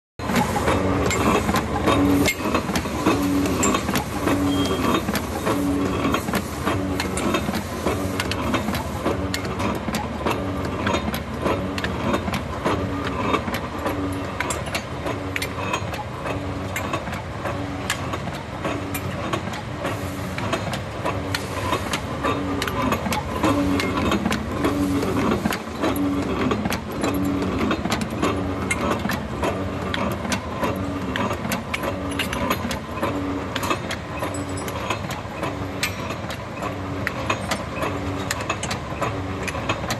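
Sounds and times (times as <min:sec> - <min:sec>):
machine motor running: 0:00.2 - 0:39.9.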